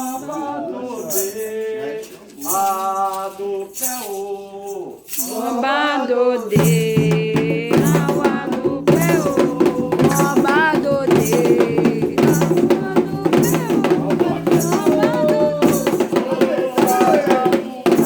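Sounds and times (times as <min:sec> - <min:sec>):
shaker rattle: 0:00.0 - 0:18.0
voices singing: 0:00.0 - 0:18.0.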